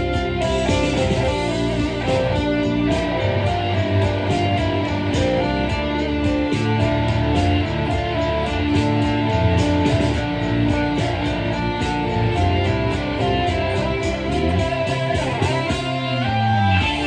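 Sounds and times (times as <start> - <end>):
guitar playing held notes: 0.0 - 17.0.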